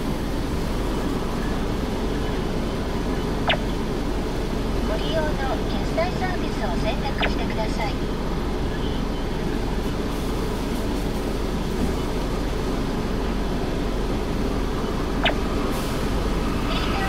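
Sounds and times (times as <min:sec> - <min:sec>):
car idling rumble: 0:00.0 - 0:17.0.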